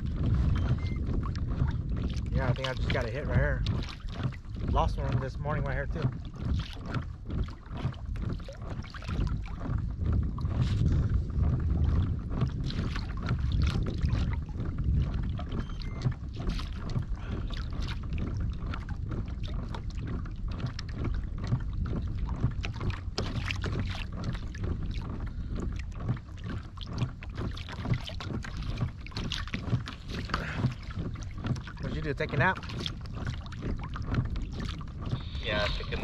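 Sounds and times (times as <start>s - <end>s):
water lapping against boat hull: 0.0s - 36.0s
wind rumble on microphone: 0.0s - 36.0s.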